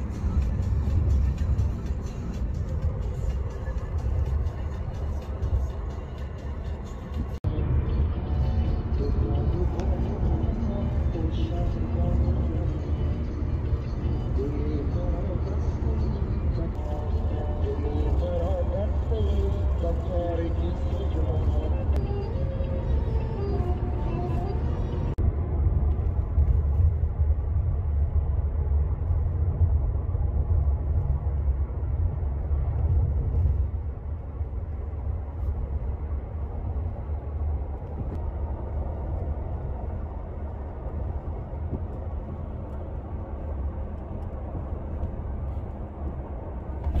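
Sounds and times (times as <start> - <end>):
car driving heard from inside: 0.0 - 47.0.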